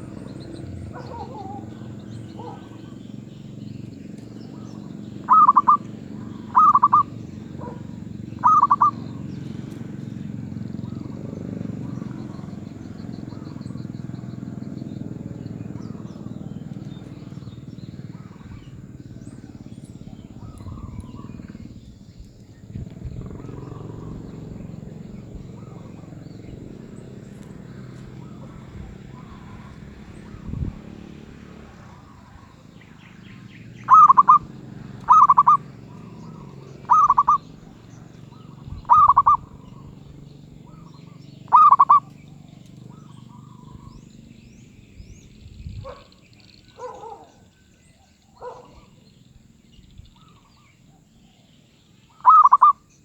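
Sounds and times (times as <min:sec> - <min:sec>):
dove cooing: 0:00.0 - 0:44.5, 0:45.8 - 0:49.0, 0:52.1 - 0:52.9
steady low rumble: 0:00.0 - 0:45.9.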